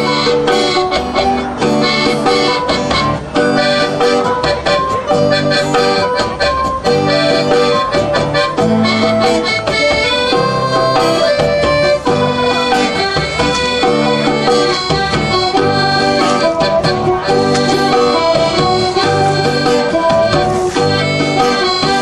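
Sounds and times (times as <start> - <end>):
instrumental background music: 0.0 - 22.0.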